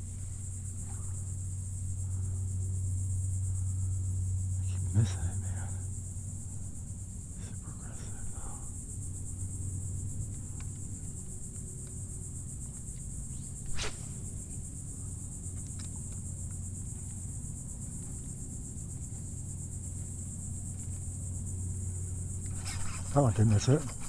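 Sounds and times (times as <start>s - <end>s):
insects buzzing: 0.0s - 24.0s
low steady hum: 0.0s - 24.0s.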